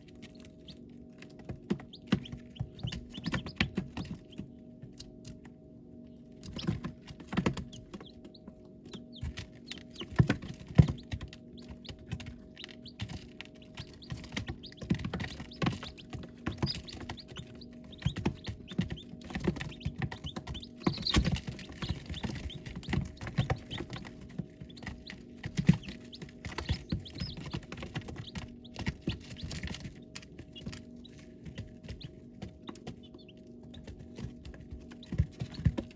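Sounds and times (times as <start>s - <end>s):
chicks peeping: 0.0s - 35.9s
chicks tapping and scratching: 0.0s - 35.9s.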